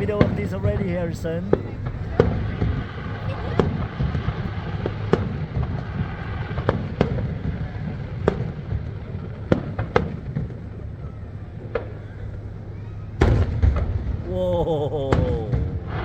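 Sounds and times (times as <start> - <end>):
fireworks bangs: 0.0 - 16.0
low rumble: 0.0 - 16.0.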